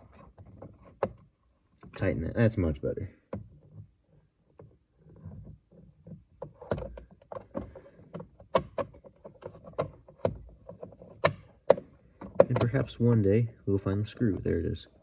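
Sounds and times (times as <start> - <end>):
clicks and knocks of hard plastic: 0.0 - 2.0, 3.2 - 13.2.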